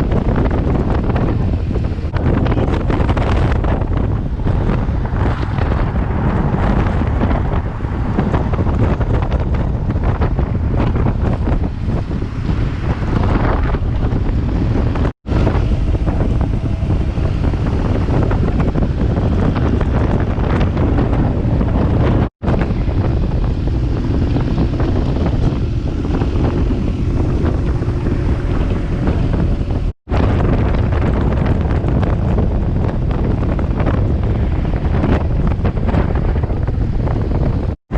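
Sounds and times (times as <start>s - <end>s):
motorcycle engine running: 0.0s - 37.8s
wind buffeting microphone: 0.0s - 37.9s.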